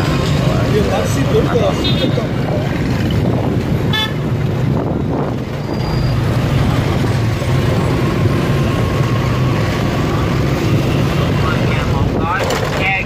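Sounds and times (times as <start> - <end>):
road noise: 0.0 - 13.0
road traffic engines humming: 0.0 - 13.0.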